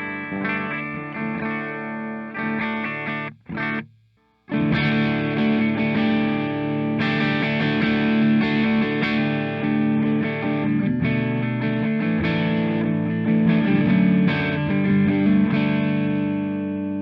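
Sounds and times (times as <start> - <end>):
overdriven electric guitar chords: 0.0 - 17.0.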